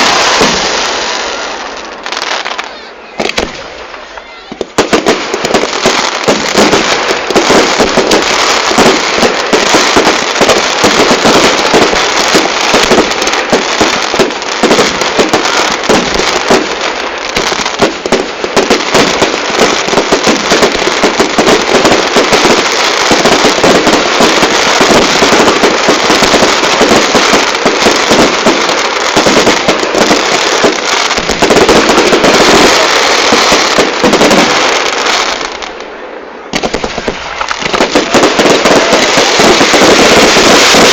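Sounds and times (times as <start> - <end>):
fireworks crackling: 0.0 - 40.9.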